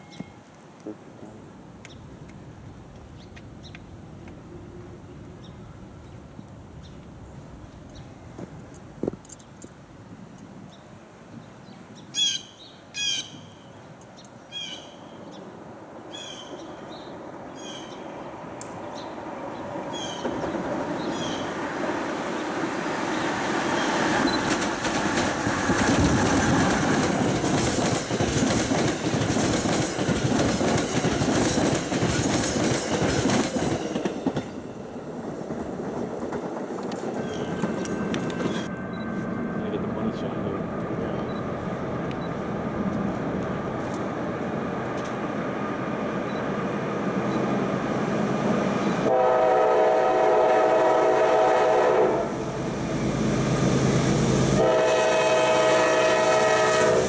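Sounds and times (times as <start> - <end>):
train rumble and wheel clatter: 2.1 - 11.4, 15.6 - 57.0.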